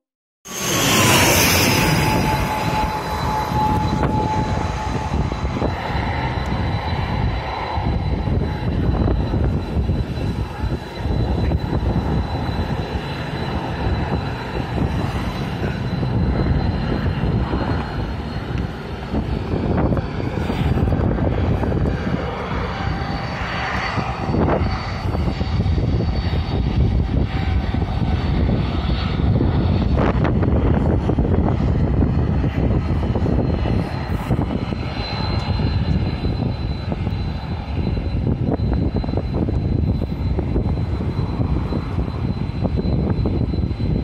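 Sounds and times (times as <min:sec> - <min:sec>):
jet engines passing overhead: 0:00.5 - 0:44.0.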